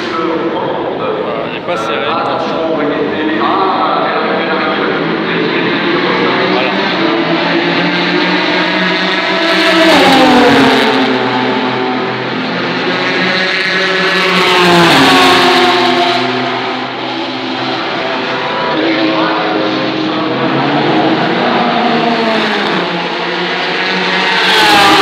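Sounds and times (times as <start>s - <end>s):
race car engines on track: 0.0s - 25.0s
race cars passing at speed: 0.0s - 25.0s.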